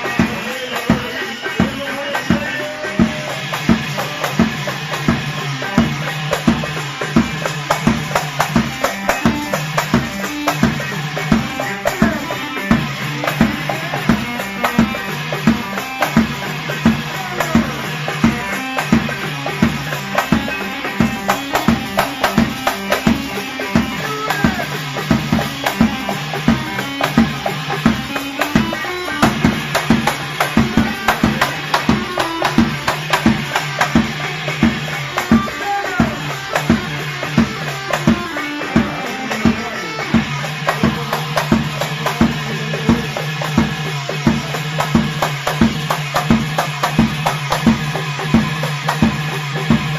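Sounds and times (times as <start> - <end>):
driving drum beat: 0.0 - 49.9
party band playing: 0.0 - 49.9.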